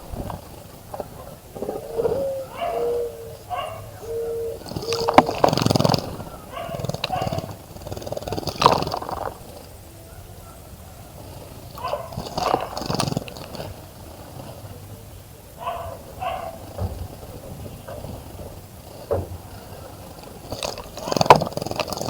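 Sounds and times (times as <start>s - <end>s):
dove cooing: 0.0s - 22.0s
wing flutter: 0.0s - 22.0s.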